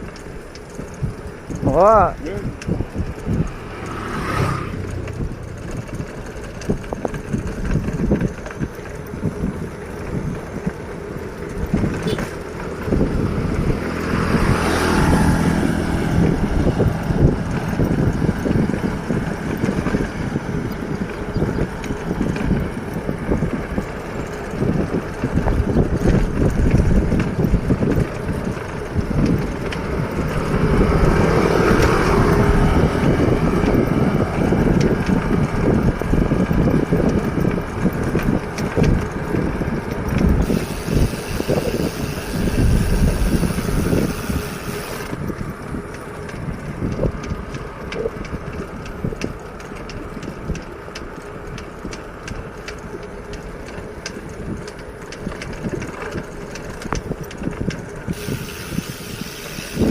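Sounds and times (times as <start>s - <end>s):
rumbling road noise: 0.0s - 59.9s
wind buffeting microphone: 0.0s - 59.9s.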